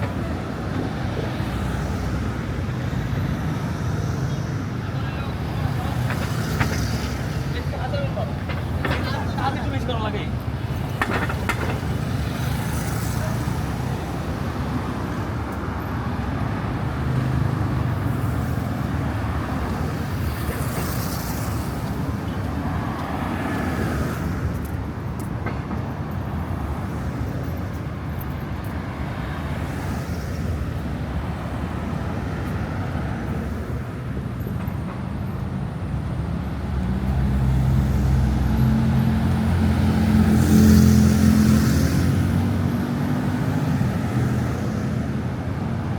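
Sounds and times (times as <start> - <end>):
passing cars rumbling: 0.0 - 45.9.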